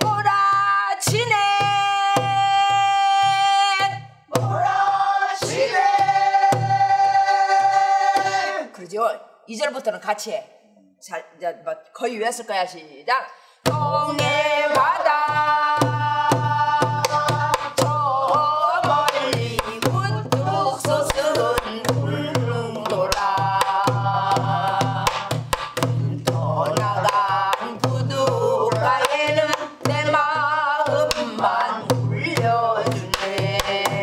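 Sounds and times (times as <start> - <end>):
barrel drum beating: 0.0 - 8.5, 13.7 - 34.0
person singing folk song: 0.0 - 8.8, 13.6 - 34.0.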